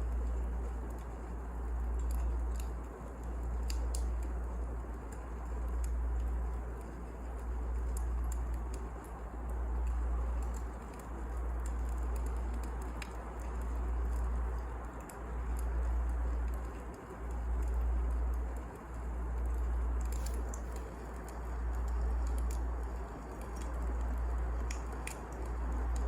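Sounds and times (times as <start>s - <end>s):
fire crackles and pops: 0.0s - 26.0s
fire rumbling: 0.0s - 26.0s.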